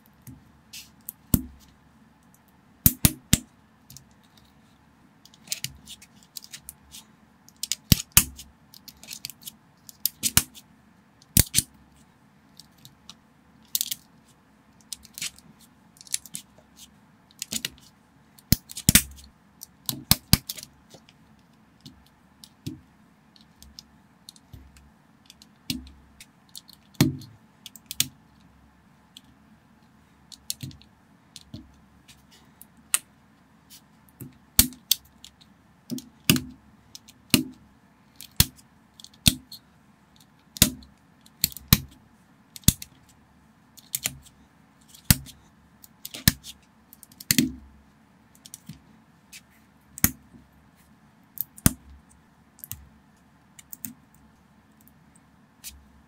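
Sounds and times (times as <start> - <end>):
faint background hum: 0.0 - 56.0.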